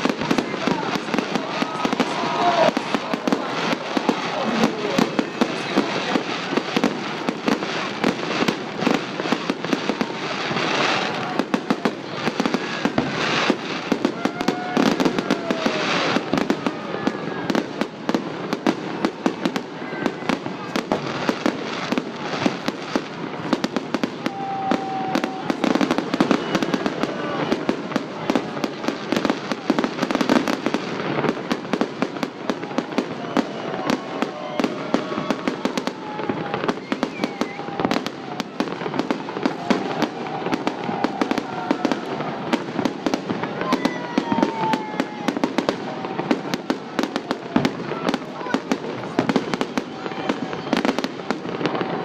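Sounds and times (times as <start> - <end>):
crowd voices: 0.0 - 52.0
fireworks crackling and banging: 0.0 - 52.0.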